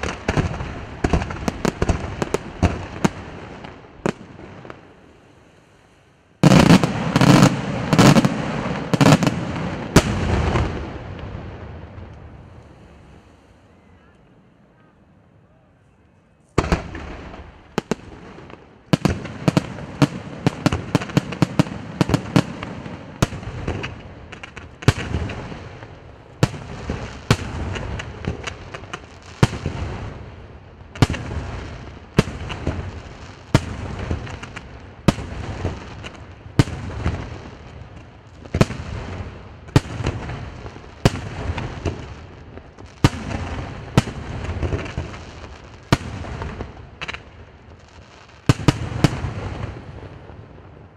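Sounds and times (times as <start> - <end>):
fireworks bangs with echo: 0.0 - 5.0, 6.4 - 12.6, 16.6 - 50.9.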